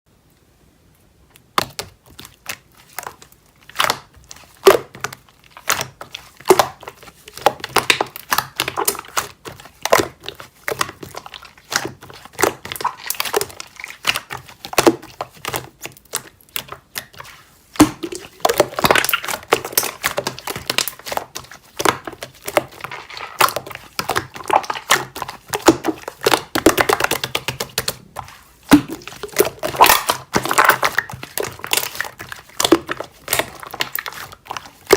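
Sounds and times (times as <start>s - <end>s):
slime squished by hand: 1.4s - 34.9s.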